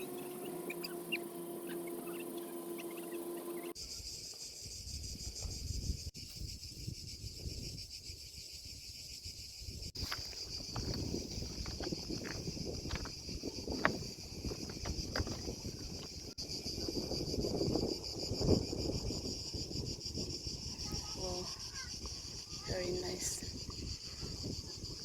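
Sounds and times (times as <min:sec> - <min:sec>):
insect chorus buzzing: 0:00.0 - 0:25.0
wind rumbling on microphone: 0:04.6 - 0:25.0.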